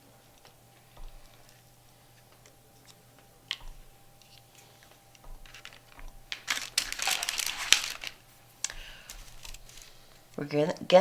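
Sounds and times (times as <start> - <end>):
crinkling and crackling: 0.2 - 10.4.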